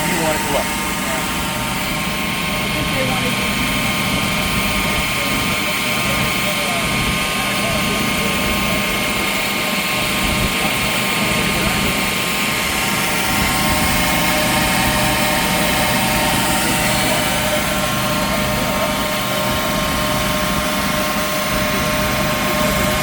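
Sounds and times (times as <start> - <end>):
blower humming: 0.0 - 23.0.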